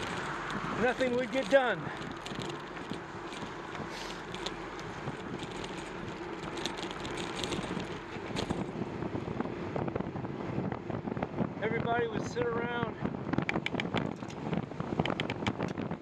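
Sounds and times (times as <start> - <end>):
bike ticking and rattling: 0.0 - 12.0, 13.0 - 16.0
bicycle tyre noise: 0.0 - 16.0
wind noise: 0.0 - 16.0.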